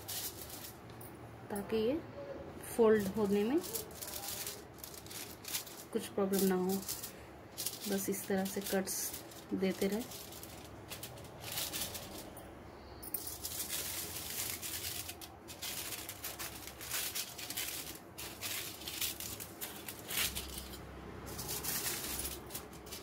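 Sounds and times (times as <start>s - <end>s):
aluminium foil crinkling: 0.0s - 0.8s, 2.9s - 12.4s, 13.2s - 23.0s
scissors snipping foil: 3.0s - 12.2s, 13.4s - 23.0s.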